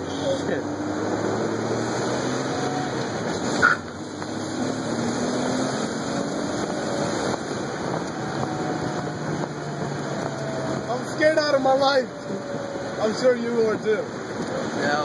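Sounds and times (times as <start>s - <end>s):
car engine accelerating: 0.0s - 15.0s
road and wind noise: 0.0s - 15.0s.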